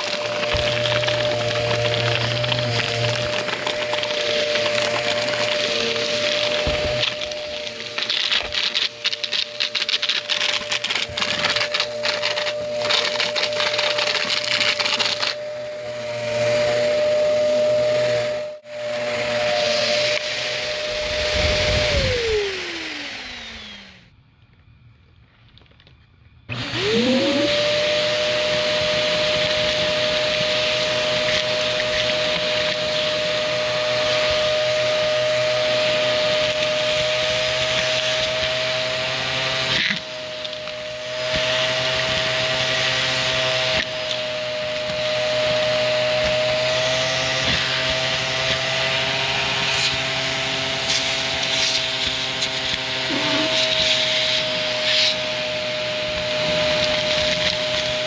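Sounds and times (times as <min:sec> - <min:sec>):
vacuum cleaner motor whine: 0:00.0 - 0:24.8, 0:26.4 - 0:58.0.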